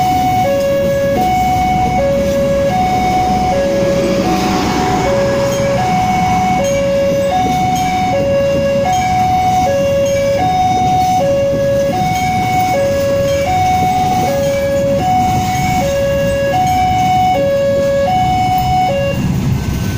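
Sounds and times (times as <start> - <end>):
level crossing two-tone alarm: 0.0 - 19.9
train rumbling over track: 0.0 - 19.9.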